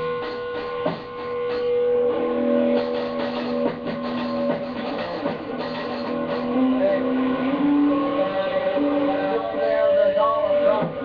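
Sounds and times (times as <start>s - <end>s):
drum hits: 0.0s - 11.0s
electric guitar sustained notes: 0.0s - 11.0s.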